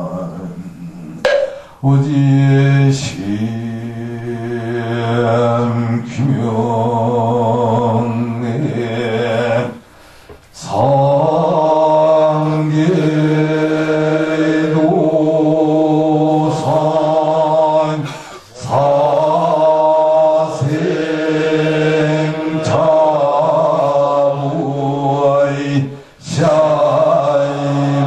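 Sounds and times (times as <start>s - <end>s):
group chanting in unison: 0.0s - 9.8s, 10.6s - 28.0s.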